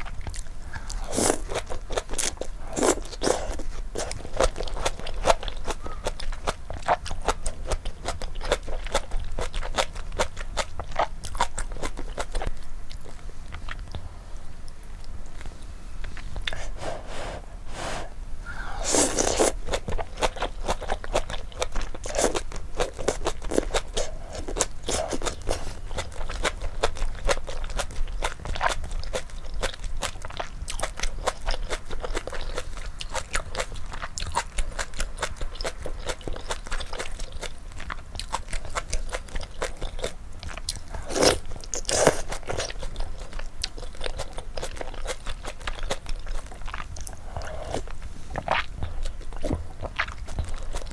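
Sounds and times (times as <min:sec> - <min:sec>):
chewing and crunching food: 0:00.0 - 0:17.5, 0:18.4 - 0:50.9.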